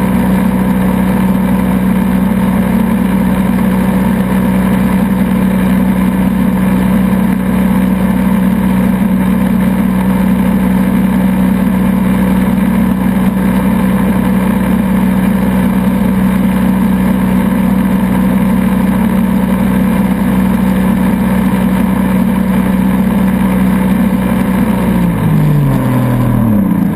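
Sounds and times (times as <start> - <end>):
boat engine running: 0.0 - 26.9.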